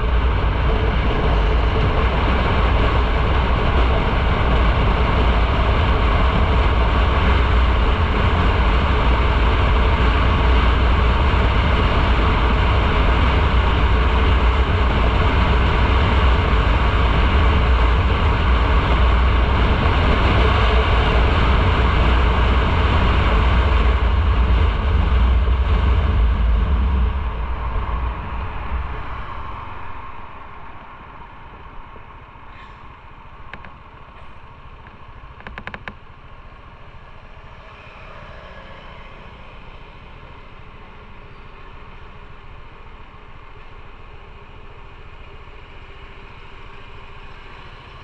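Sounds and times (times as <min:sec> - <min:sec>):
motorcycle engine drone: 0:00.0 - 0:48.0
road noise: 0:00.0 - 0:48.0
rushing wind: 0:00.0 - 0:48.0.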